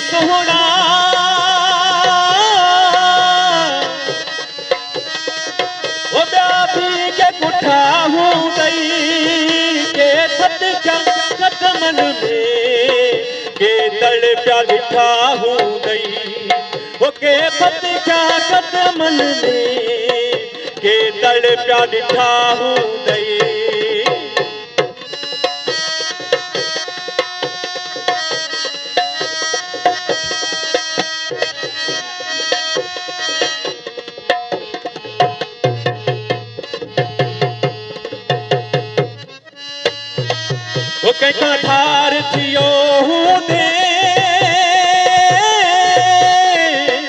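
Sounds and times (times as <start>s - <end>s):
man singing into a microphone: 0.0s - 38.4s, 39.0s - 47.0s
fast hand drum rhythm: 0.0s - 47.0s
harmonium melody: 0.0s - 47.0s.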